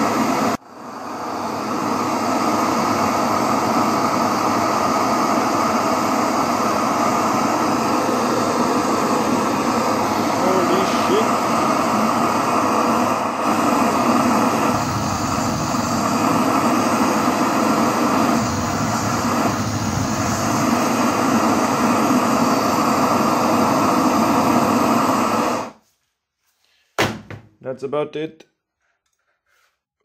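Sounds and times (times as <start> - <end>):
blowtorch flame hissing: 0.0 - 25.8.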